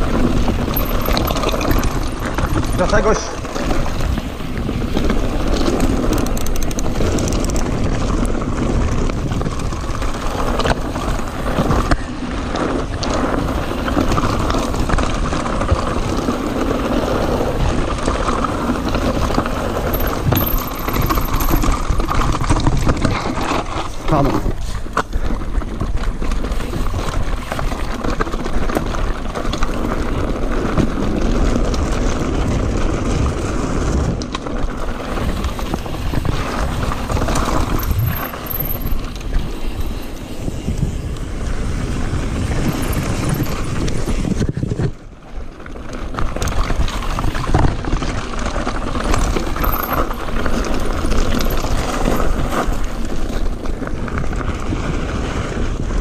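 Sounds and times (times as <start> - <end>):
bike rattling: 0.0 - 56.0
bike tyre noise: 0.0 - 56.0
wind buffeting microphone: 0.0 - 56.0.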